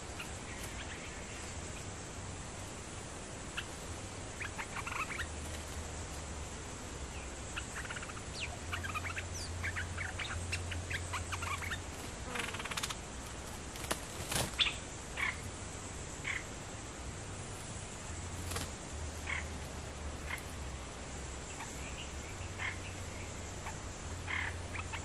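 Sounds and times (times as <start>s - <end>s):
birds chirping and chattering: 0.0s - 25.0s.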